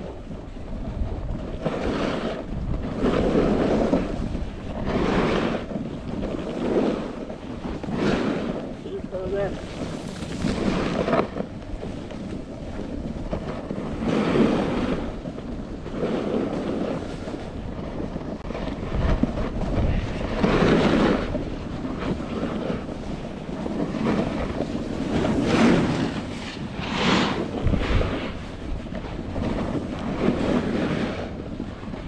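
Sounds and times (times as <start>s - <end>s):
skis scraping on snow: 0.0s - 32.0s
wind buffeting microphone: 0.0s - 32.0s.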